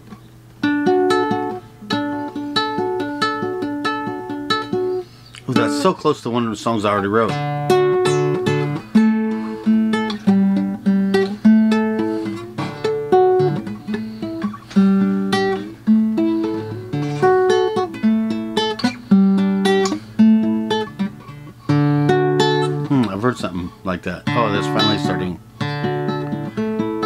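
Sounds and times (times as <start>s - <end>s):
guitar chords played slowly: 0.0s - 6.0s, 6.8s - 27.0s.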